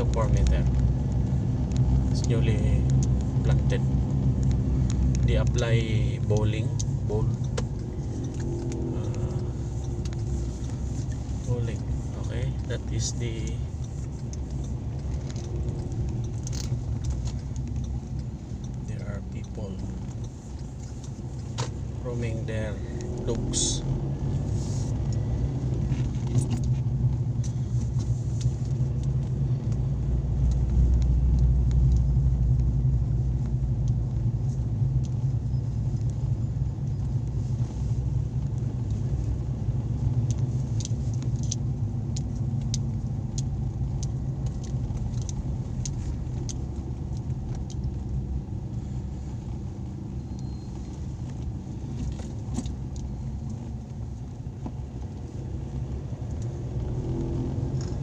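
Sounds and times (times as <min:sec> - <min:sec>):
light clicks and rattles: 0:00.0 - 0:23.9, 0:24.9 - 0:58.0
vehicle engine and road noise: 0:00.0 - 0:58.0.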